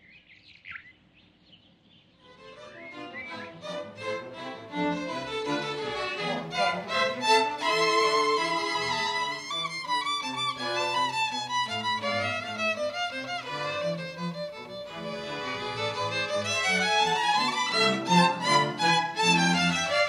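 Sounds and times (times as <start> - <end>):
violin slow melody: 2.3 - 20.0.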